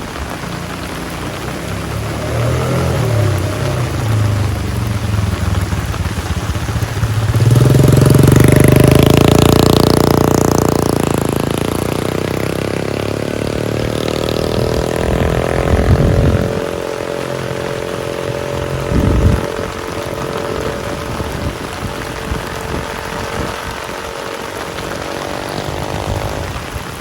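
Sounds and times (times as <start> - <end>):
heavy rain hissing: 0.0 - 27.0
vehicle engine passing: 0.1 - 27.0.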